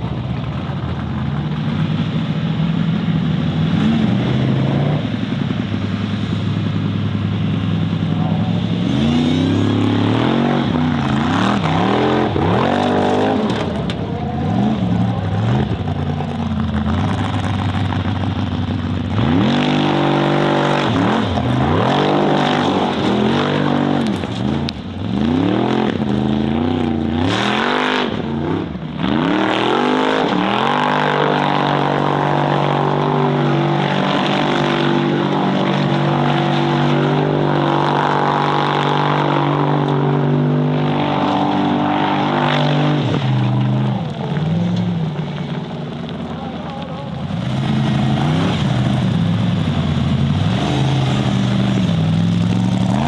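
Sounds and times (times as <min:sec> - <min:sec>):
buggy engine revving: 0:00.0 - 0:53.0.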